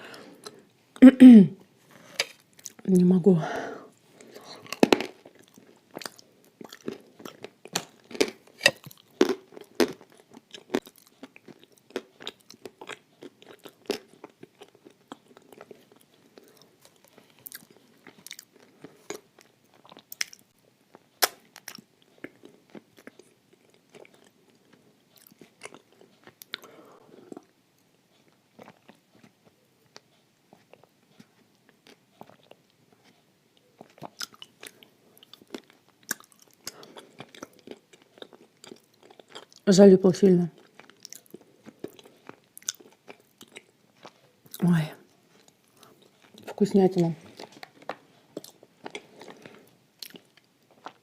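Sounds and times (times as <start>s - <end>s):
crunching and chewing: 1.8s - 2.9s, 4.0s - 39.7s, 40.5s - 51.0s.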